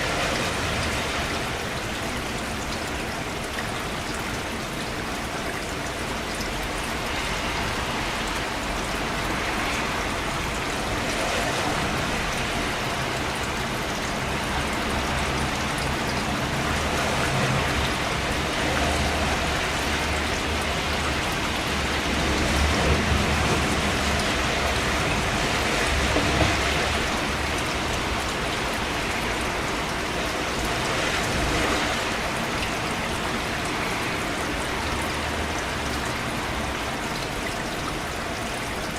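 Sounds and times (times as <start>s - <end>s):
steady rainfall hiss: 0.0s - 38.9s.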